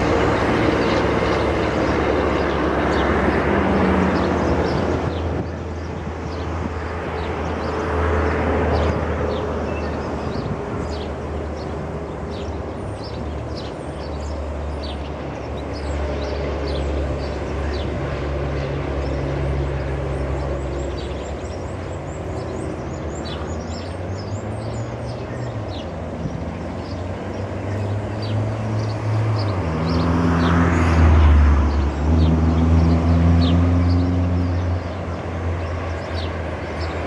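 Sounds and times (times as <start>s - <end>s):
vehicle engines humming: 0.0s - 37.0s
vehicle passing: 0.0s - 37.0s.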